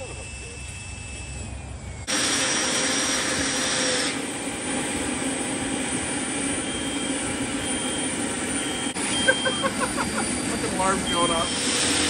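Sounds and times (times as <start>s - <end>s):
model turbine engine rushing: 0.0s - 12.0s
thin high whine: 0.0s - 12.0s.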